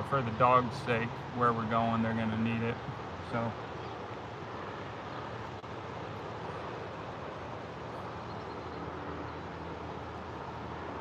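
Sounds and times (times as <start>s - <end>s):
steady outdoor background rush: 0.0s - 11.0s.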